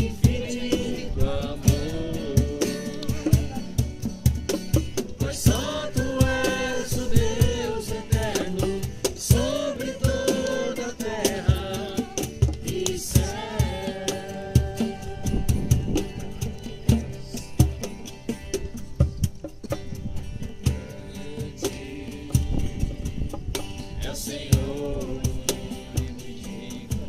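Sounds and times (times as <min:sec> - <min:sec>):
group singing: 0:00.0 - 0:18.8, 0:20.6 - 0:27.0
acoustic guitar: 0:00.0 - 0:27.0
steady drum beat: 0:00.0 - 0:27.0.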